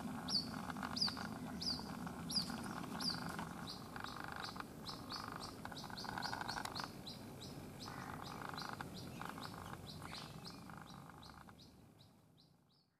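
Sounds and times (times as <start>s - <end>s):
chick peeping: 0.3s - 11.8s.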